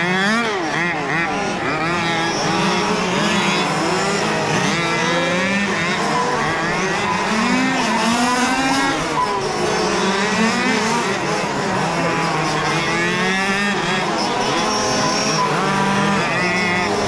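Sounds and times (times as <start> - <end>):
model car engines revving: 0.0 - 17.0.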